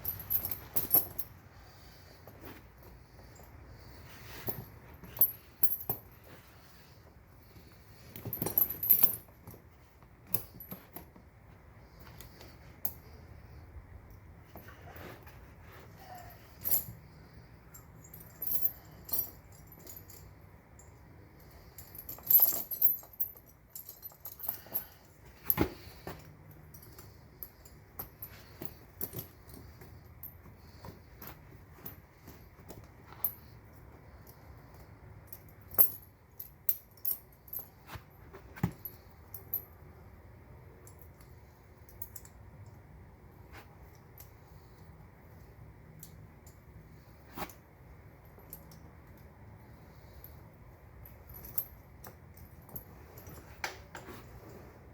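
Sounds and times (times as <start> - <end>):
chain links clinking: 0.0 - 54.9.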